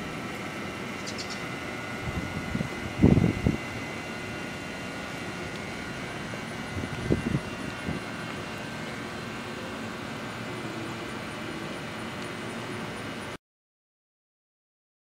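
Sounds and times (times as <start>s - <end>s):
mechanical hum: 0.0s - 13.4s.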